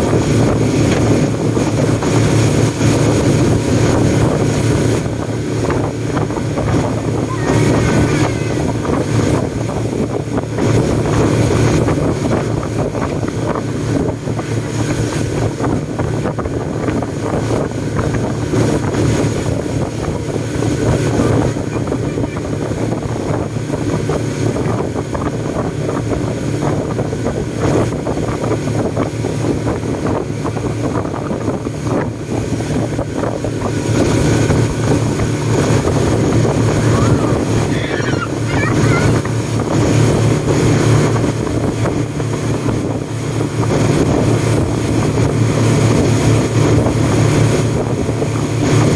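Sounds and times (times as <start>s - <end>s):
boat engine drone: 0.0s - 48.9s
water rushing along hull: 0.0s - 48.9s
wind buffeting microphone: 0.0s - 48.9s.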